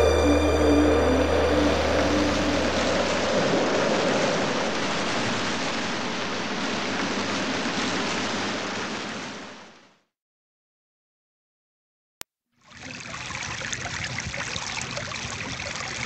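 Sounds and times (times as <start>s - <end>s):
rushing water: 0.0s - 10.1s, 12.6s - 16.0s.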